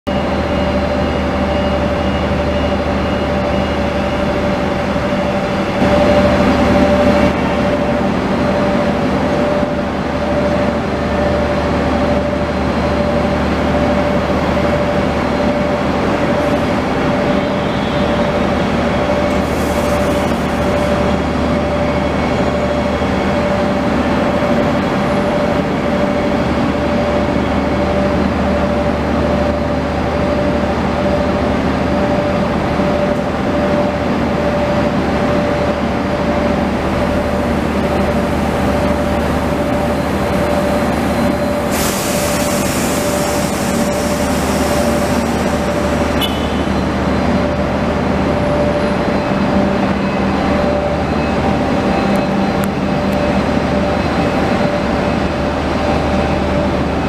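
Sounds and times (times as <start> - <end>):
electric train hum and whine: 0.1 - 57.0.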